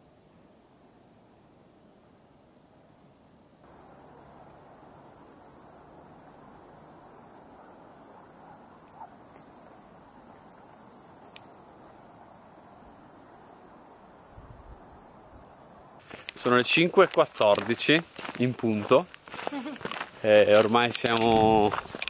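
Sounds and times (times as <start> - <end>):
faint air hiss: 0.0 - 19.2
high-pitched insect chorus: 3.6 - 22.0.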